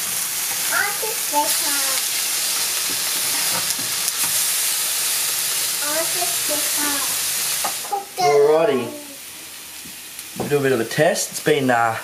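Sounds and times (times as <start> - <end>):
fish fillets sizzling in a frying pan: 0.0 - 12.0.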